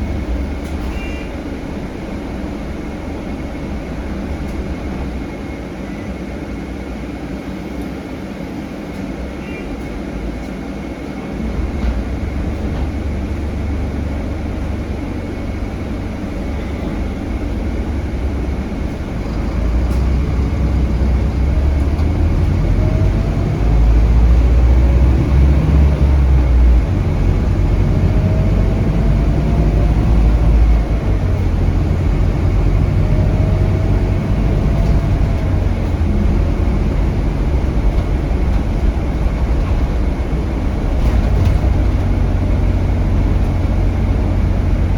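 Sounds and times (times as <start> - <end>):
bus diesel engine rumble: 0.0 - 44.9.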